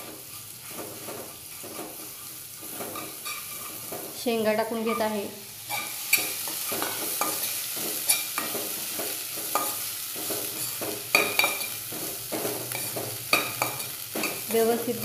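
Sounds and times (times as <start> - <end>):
spatula stirring and scraping pan: 0.0 - 15.0
vegetables sizzling in hot oil: 0.0 - 15.0.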